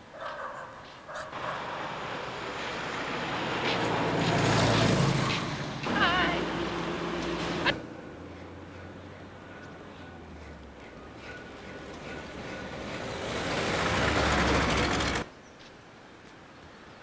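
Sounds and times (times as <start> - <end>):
motor vehicle passing: 1.3 - 15.3.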